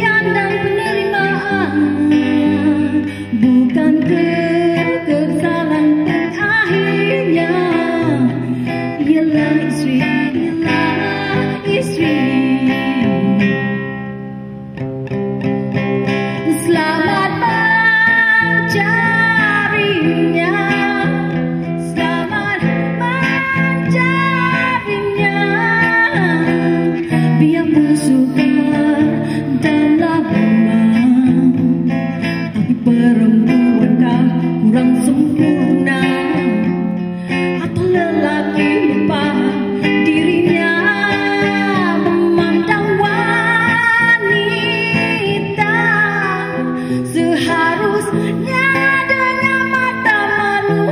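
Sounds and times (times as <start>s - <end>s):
woman singing into microphone: 0.0s - 14.1s, 15.7s - 50.9s
guitar accompaniment: 0.0s - 50.9s.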